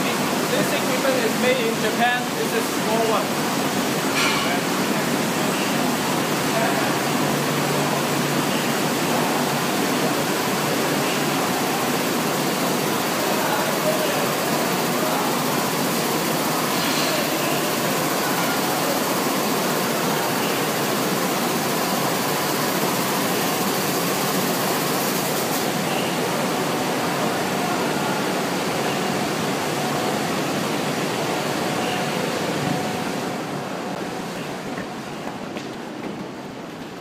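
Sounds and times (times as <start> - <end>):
printing presses running: 0.0 - 37.0.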